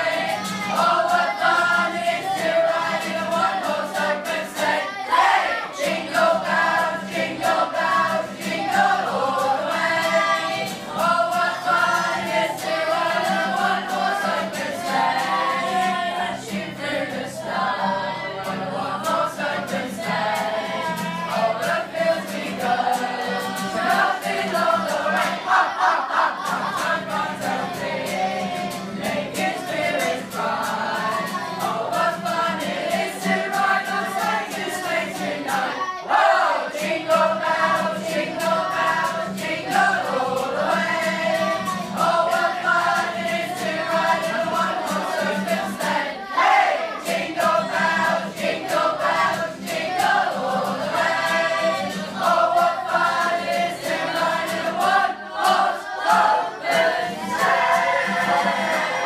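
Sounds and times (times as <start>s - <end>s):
choir of young voices singing: 0.0s - 59.0s
strummed acoustic guitar: 0.0s - 59.0s.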